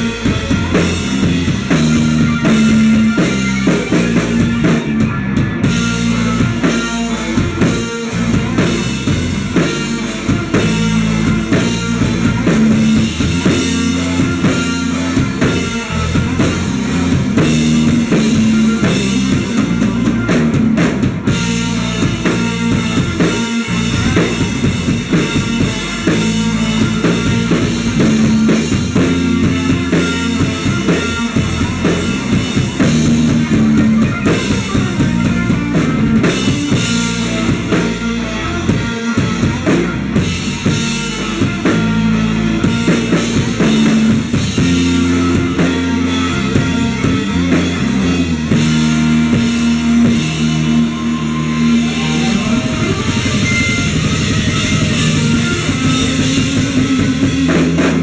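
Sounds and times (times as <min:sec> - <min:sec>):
bass drum: 0:00.0 - 0:58.0
bass guitar: 0:00.0 - 0:58.0
electric guitars: 0:00.0 - 0:58.0.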